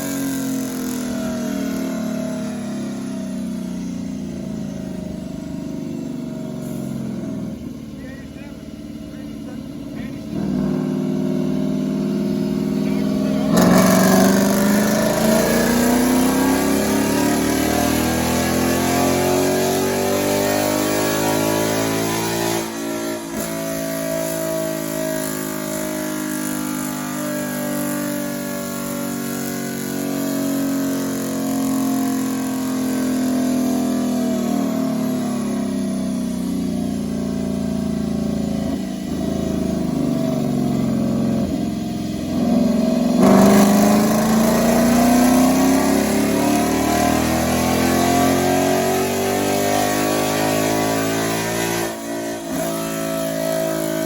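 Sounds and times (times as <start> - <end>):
car engine revving on dyno: 0.0 - 54.0.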